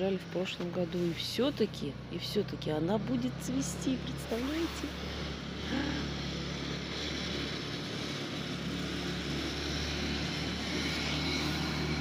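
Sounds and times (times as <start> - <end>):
distant engine droning: 0.0 - 12.0.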